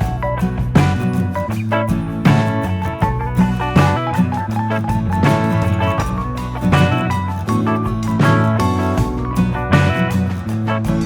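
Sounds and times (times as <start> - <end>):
bass line: 0.0 - 11.0
plucked guitar tune: 0.0 - 11.0
steady beat: 0.0 - 11.0.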